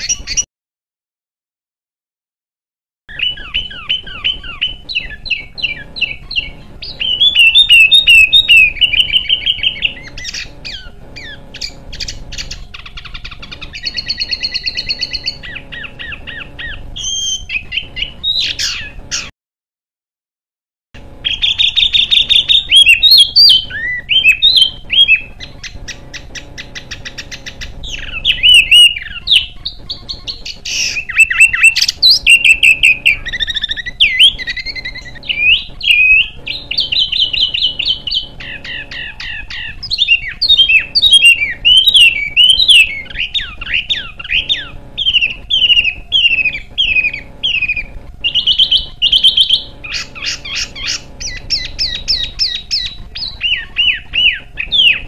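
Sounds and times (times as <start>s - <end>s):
songbird singing harsh trills: 3.1s - 19.3s, 21.0s - 55.0s.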